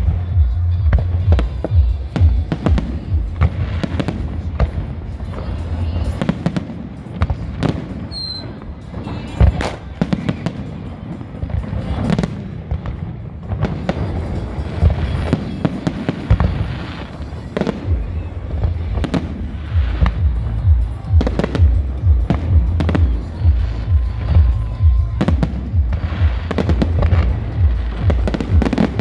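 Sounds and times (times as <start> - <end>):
fireworks crackling: 0.0 - 29.0
steady low rumble: 0.0 - 29.0.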